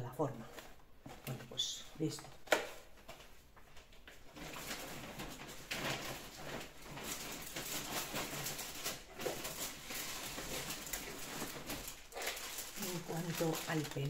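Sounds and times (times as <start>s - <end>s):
items rustling in a bag: 0.3s - 14.0s.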